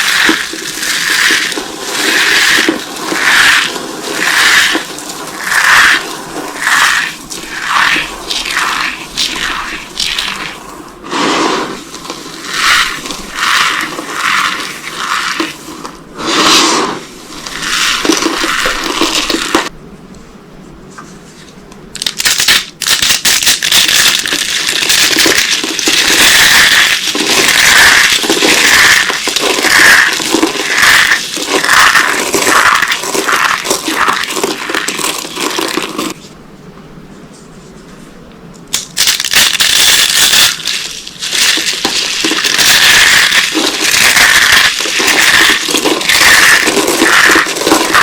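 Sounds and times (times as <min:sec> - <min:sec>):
soap cubes crunching: 0:00.0 - 0:10.7, 0:11.6 - 0:16.4, 0:17.3 - 0:19.7, 0:22.0 - 0:36.2, 0:38.8 - 0:48.0.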